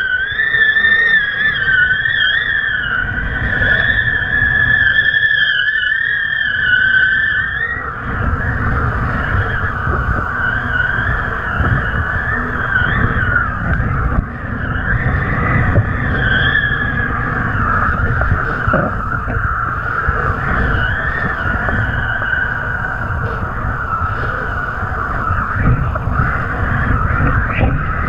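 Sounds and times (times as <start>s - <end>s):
high wavering whistle: 0.0s - 28.0s
wind buffeting a camera: 0.0s - 28.0s.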